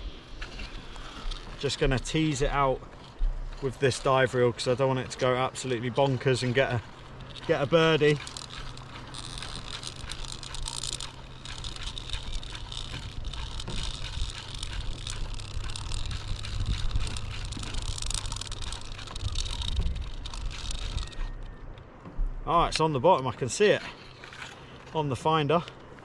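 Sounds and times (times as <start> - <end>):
reel clicking fast: 0.0 - 21.9, 23.5 - 26.0
wind rumble on microphone: 0.0 - 23.0.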